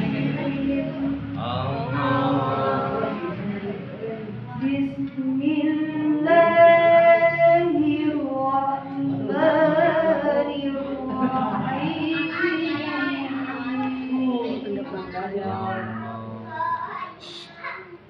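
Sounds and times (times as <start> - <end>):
person reciting melodically: 0.0 - 17.8.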